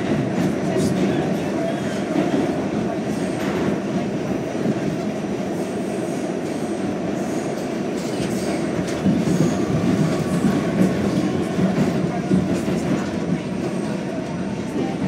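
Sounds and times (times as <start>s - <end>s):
subway car wheels rumbling: 0.0s - 15.0s.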